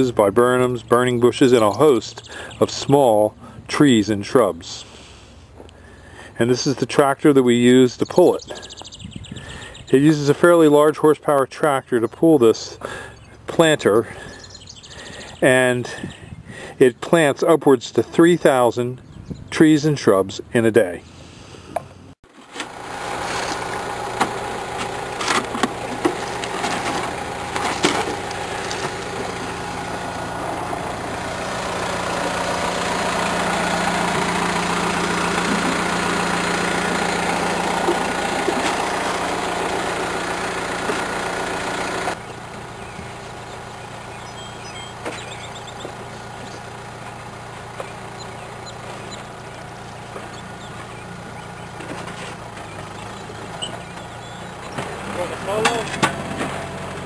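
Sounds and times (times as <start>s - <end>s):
vehicle engine idling: 0.0s - 17.3s, 20.8s - 57.0s.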